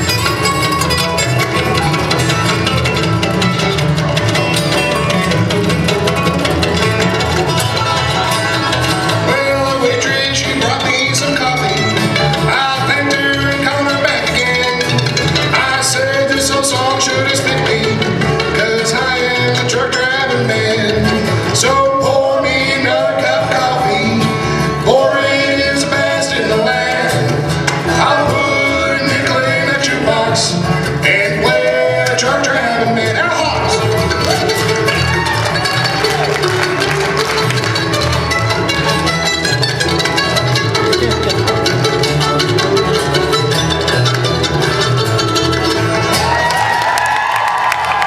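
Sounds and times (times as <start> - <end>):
acoustic guitar: 0.0 - 48.0
banjo: 0.0 - 48.0
bluegrass band playing: 0.0 - 48.0
mandolin: 0.0 - 48.0
upright bass: 0.0 - 48.0.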